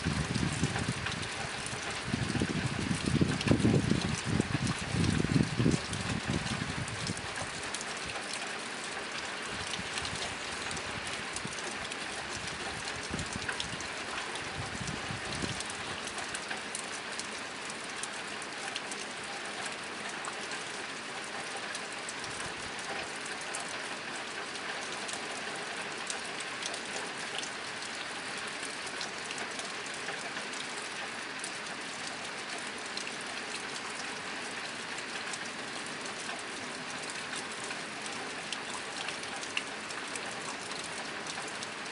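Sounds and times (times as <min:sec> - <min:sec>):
rain on a tin roof: 0:00.0 - 0:41.9.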